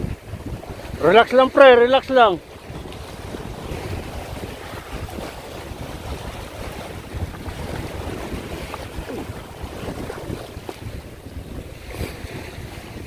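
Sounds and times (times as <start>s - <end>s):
waves lapping on stony shore: 0.0s - 13.0s
wind buffeting microphone: 0.0s - 13.0s.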